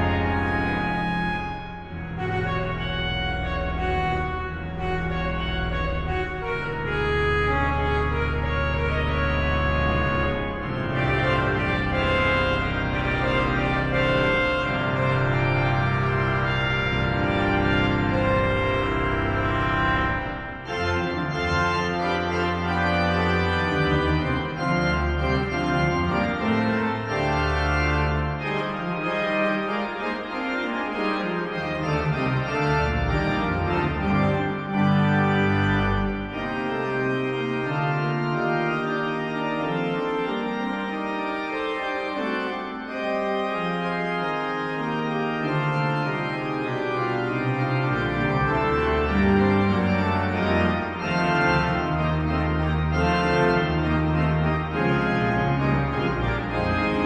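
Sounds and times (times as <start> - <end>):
deep organ pedal notes: 0.0 - 57.0
pipe organ chords: 0.0 - 57.0.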